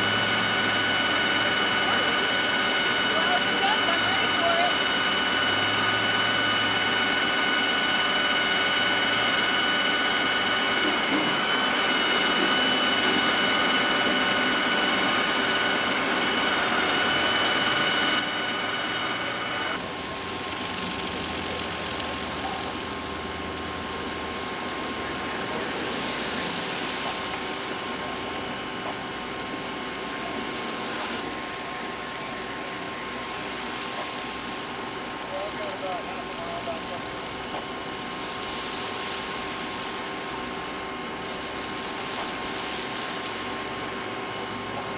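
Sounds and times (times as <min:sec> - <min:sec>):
vehicle engine with whine: 0:00.0 - 0:44.9.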